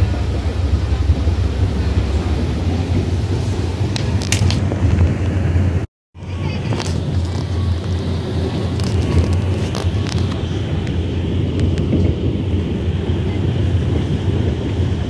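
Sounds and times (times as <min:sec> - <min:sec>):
monorail car rumble: 0:00.0 - 0:15.0.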